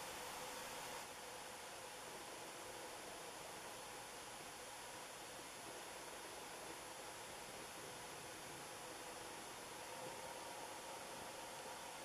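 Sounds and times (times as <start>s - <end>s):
faint background hiss: 0.0s - 12.0s
faint even hum: 0.0s - 12.0s.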